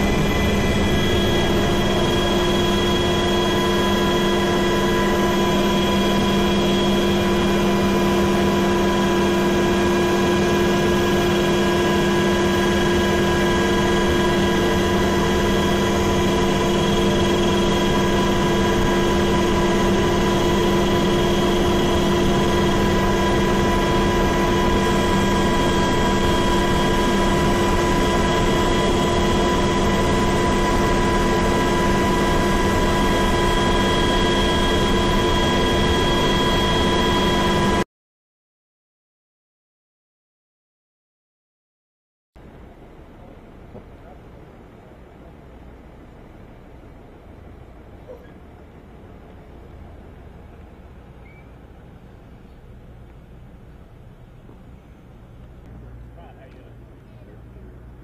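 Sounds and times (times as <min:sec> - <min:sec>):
helicopter engine and rotors: 0:00.0 - 0:37.8, 0:42.4 - 0:58.0.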